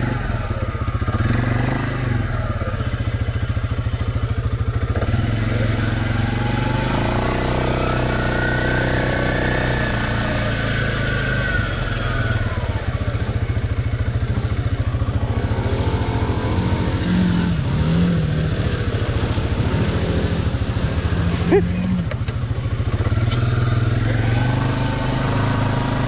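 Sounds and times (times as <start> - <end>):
off-road vehicle engine running: 0.0 - 26.0.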